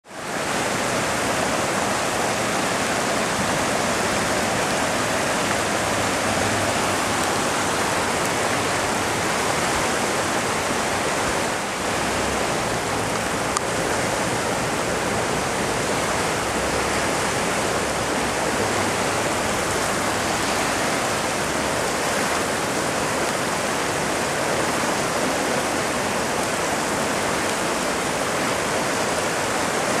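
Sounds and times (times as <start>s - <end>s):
storm runoff rushing: 0.0s - 30.0s.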